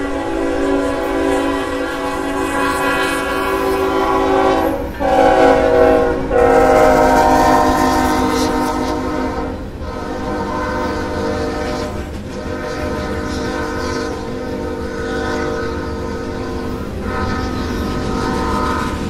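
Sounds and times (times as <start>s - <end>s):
locomotive air horn blasts: 0.0s - 19.0s
train wheels clattering: 0.0s - 19.0s.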